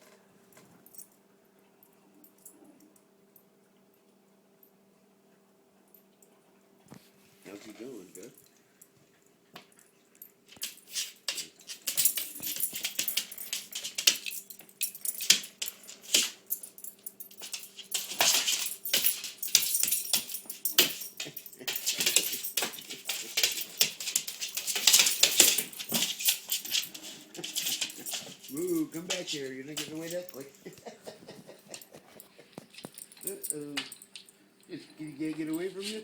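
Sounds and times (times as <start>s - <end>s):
dog and cat play-fighting: 0.0s - 36.0s.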